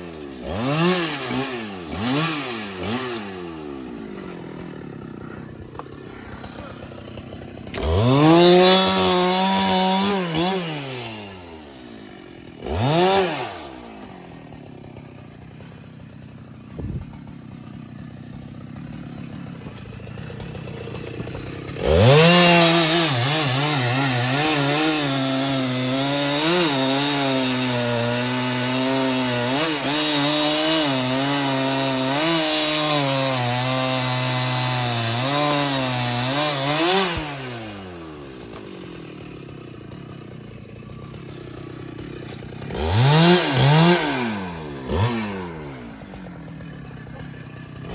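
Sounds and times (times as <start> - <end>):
chainsaw revving and cutting wood: 0.0 - 47.9.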